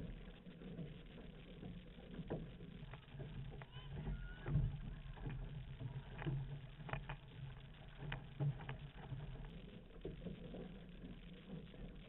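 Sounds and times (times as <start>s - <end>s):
paddles dipping and splashing: 0.0s - 12.0s.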